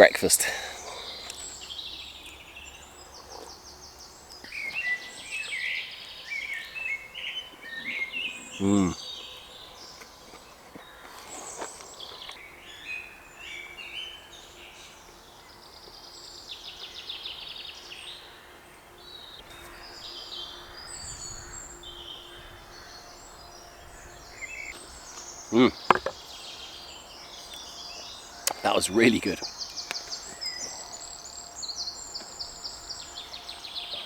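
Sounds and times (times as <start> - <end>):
small birds singing and chirping: 0.0 - 34.0.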